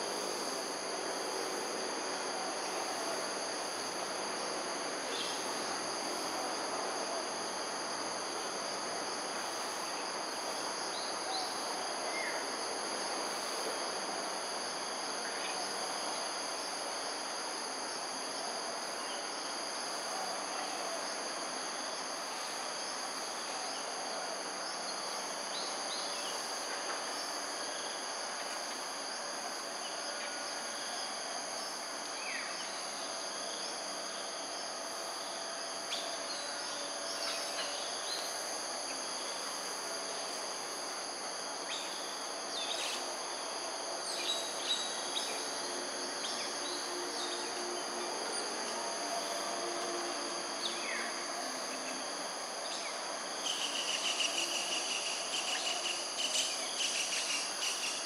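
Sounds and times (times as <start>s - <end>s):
background hiss: 0.0s - 58.0s
insect chorus drone: 0.0s - 58.0s.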